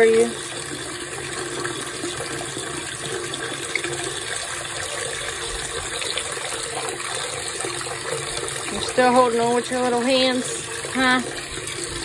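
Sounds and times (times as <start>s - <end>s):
bathtub tap running: 0.0s - 12.0s.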